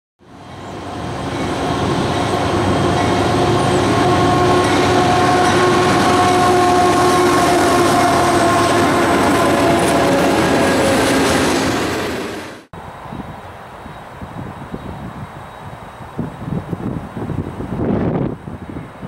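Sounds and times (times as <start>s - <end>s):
diesel locomotives rumbling past: 0.2s - 19.0s.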